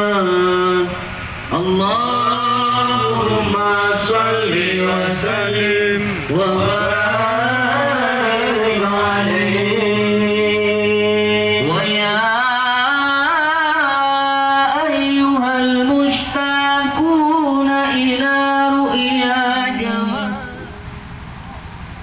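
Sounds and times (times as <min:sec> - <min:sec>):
person chanting through loudspeaker: 0:00.0 - 0:20.8.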